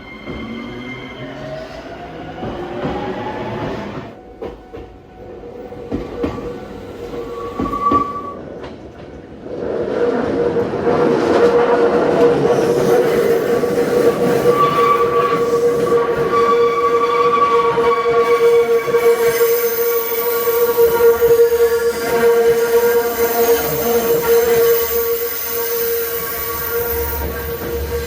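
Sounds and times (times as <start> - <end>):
train rolling noise: 0.0 - 28.0.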